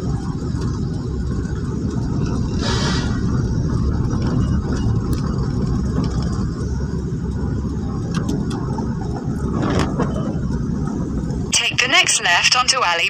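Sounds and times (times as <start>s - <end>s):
car driving on wet road: 0.0s - 11.5s.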